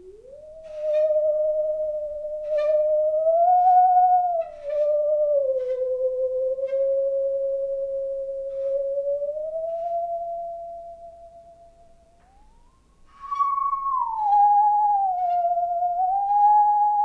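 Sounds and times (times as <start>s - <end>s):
musical saw being bowed: 0.0s - 17.0s.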